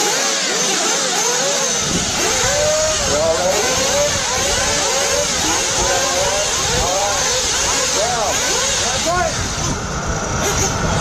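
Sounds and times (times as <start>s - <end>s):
rc buggy engines revving: 0.0s - 11.0s.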